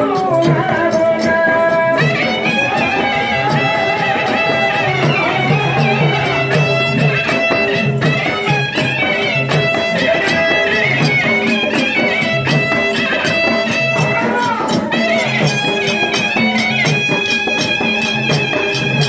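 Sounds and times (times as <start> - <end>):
high wavering folk melody: 0.0 - 19.0
steady drum beat: 0.0 - 19.0.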